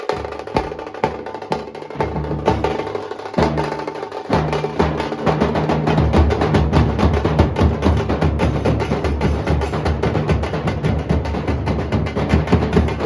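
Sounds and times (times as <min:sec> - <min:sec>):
dhol drums playing: 0:00.0 - 0:13.0.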